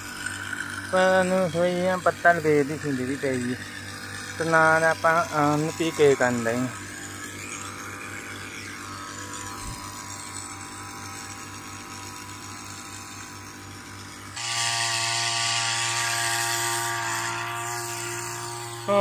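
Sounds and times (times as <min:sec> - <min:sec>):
sprayer engine running: 0:00.0 - 0:19.0.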